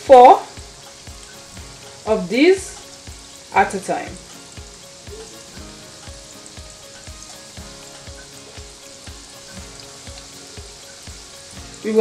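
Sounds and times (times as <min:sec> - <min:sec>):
oil sizzling deep-frying: 0:00.0 - 0:12.0.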